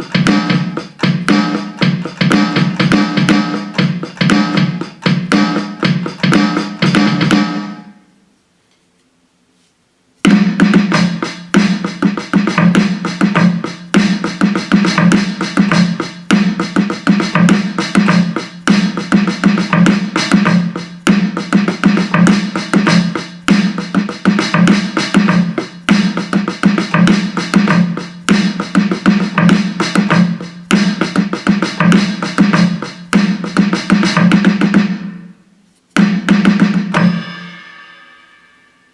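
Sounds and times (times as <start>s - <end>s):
electronic drum hits: 0.0s - 8.0s, 10.3s - 35.3s, 36.0s - 38.7s.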